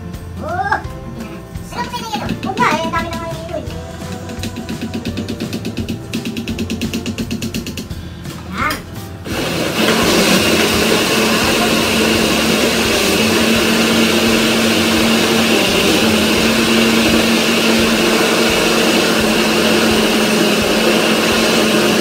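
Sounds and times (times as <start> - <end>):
electric blender whirring: 2.2 - 7.9, 9.2 - 22.0.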